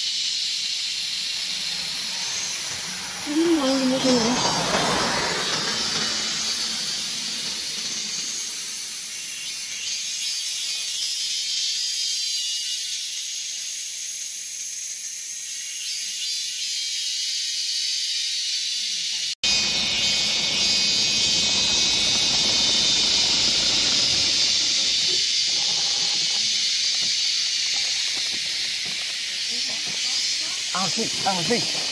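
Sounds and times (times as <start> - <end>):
cicadas chorus: 0.0 - 31.9.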